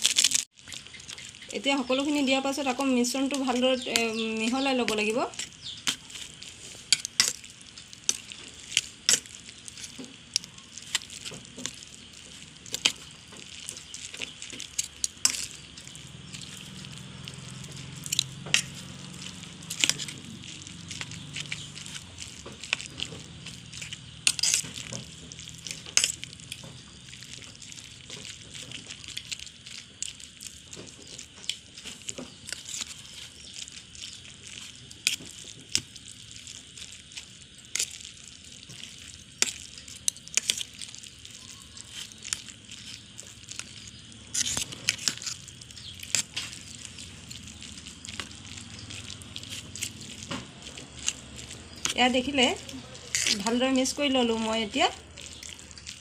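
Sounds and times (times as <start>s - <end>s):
soft wet stirring: 0.1s - 56.0s
spoon clinking and scraping bowl: 0.8s - 29.8s, 38.7s - 56.0s.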